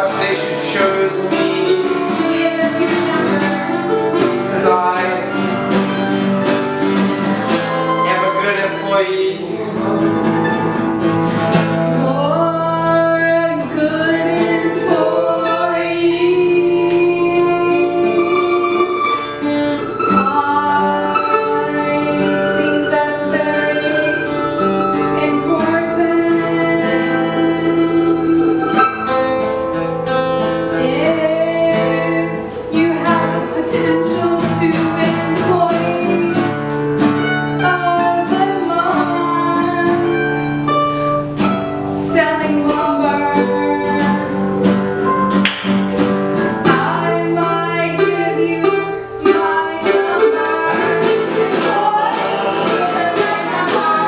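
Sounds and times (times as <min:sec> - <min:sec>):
person singing: 0:00.0 - 0:06.0, 0:07.4 - 0:11.0, 0:11.9 - 0:29.2, 0:30.7 - 0:36.6, 0:37.2 - 0:45.2, 0:46.5 - 0:54.0
plucked strings: 0:00.0 - 0:54.0.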